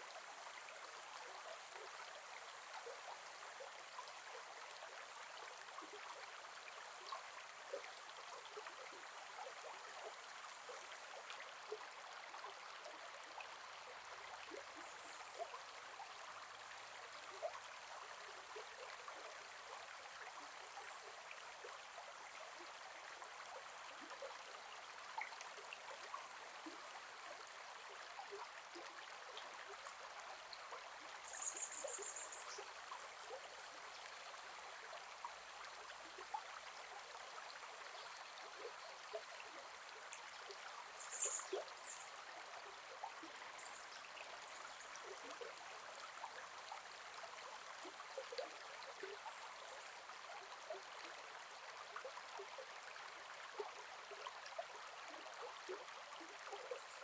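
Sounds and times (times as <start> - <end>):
river water babbling: 0.0 - 57.0.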